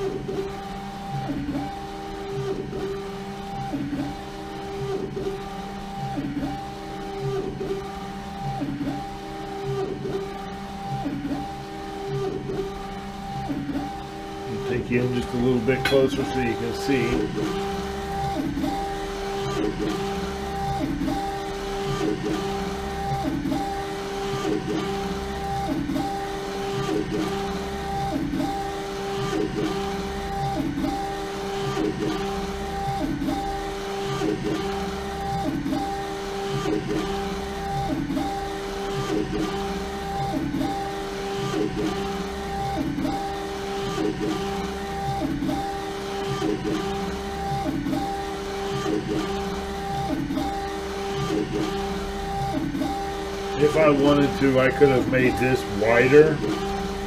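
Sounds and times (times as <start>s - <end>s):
printer carriage motor whine: 0.0s - 57.0s.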